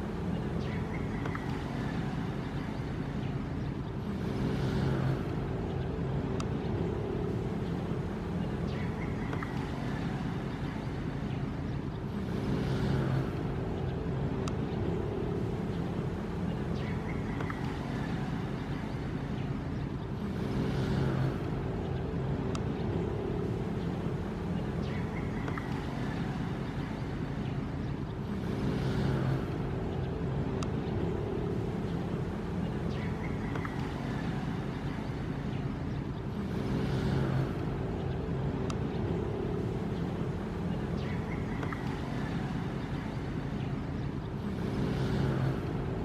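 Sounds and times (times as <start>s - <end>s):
ocean waves washing in: 0.0s - 46.0s.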